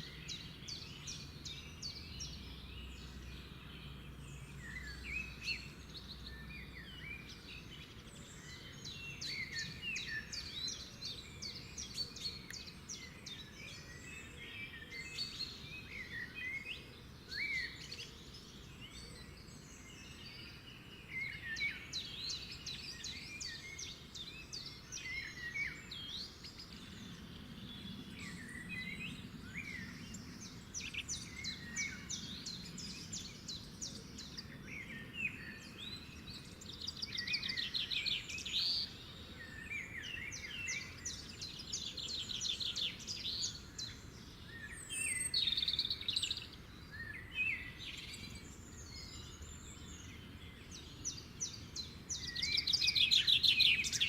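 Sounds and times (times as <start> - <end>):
birds chirping and whistling: 4.6 - 54.0.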